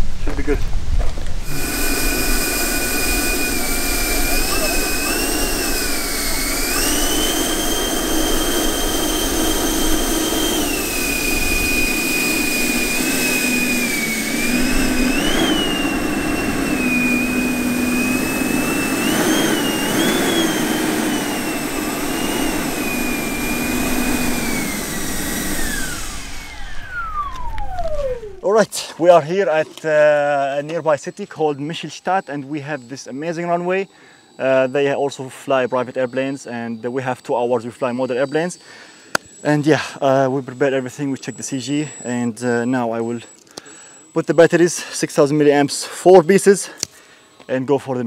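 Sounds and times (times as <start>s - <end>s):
electric ducted fans whining: 0.0s - 48.0s.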